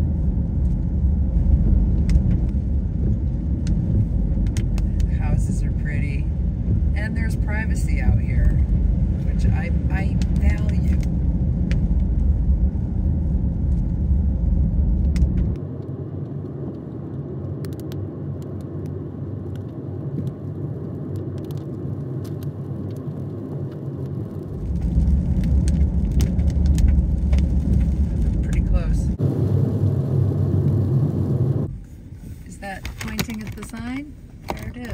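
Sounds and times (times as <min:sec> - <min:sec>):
car road and engine rumble: 0:00.0 - 0:34.9.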